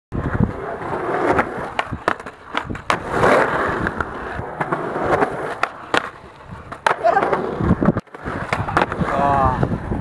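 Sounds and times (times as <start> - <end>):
skateboard wheels rolling on concrete: 0.1 - 10.0
skateboard clacking: 0.2 - 9.9
skateboard scraping: 0.2 - 10.0.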